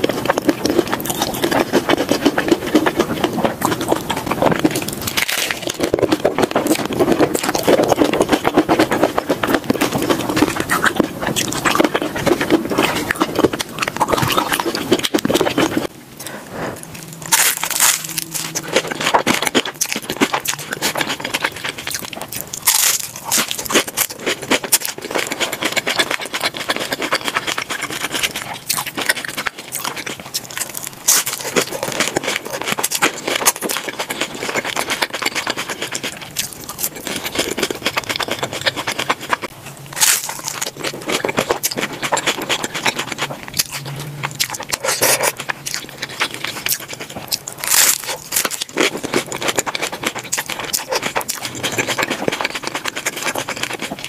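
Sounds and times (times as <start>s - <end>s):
crunching taco shells: 0.0s - 54.0s.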